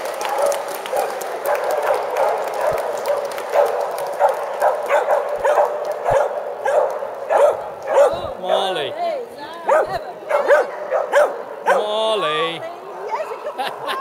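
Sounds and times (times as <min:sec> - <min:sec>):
dogs barking: 0:00.0 - 0:09.0, 0:09.6 - 0:12.2.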